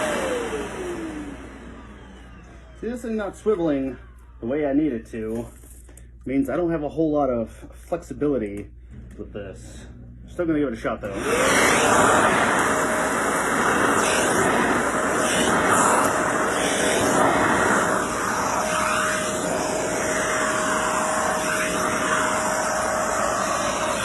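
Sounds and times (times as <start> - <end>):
vacuum cleaner running: 0.0 - 5.4, 9.0 - 24.0.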